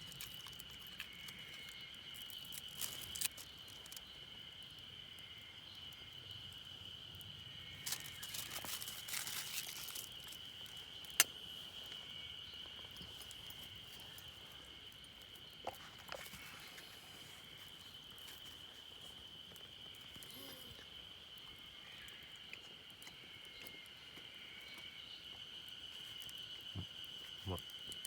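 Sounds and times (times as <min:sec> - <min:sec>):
light clicks and crackles: 0:00.0 - 0:21.4, 0:24.8 - 0:28.0
high-pitched insect trill: 0:00.0 - 0:28.0.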